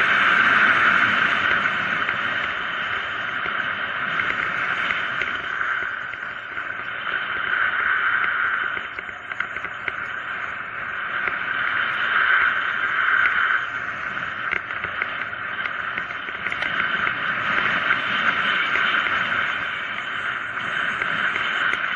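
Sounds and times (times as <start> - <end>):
bike clicks and ticks: 0.0 - 21.9
wind and tyres on asphalt: 0.0 - 21.9.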